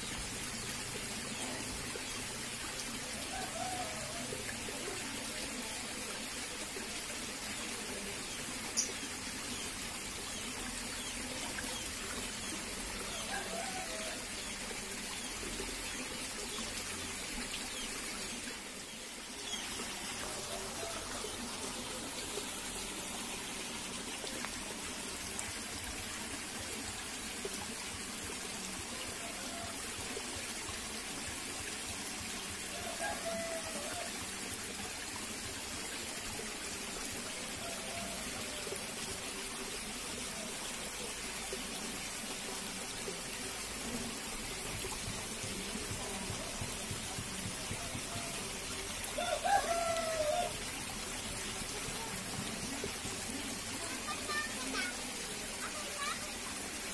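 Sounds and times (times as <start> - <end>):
stream water trickling over rocks: 0.0 - 56.9.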